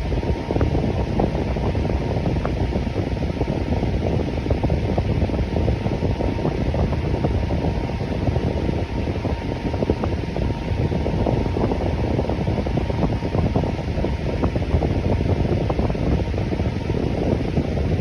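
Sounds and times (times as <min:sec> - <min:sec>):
electric fan running: 0:00.0 - 0:18.0.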